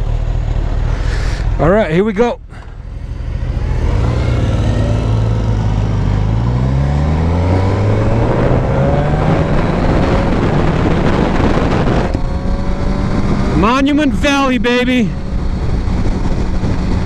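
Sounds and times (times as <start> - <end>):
motorcycle engine accelerating: 0.0 - 17.0
wind rushing: 2.4 - 17.0.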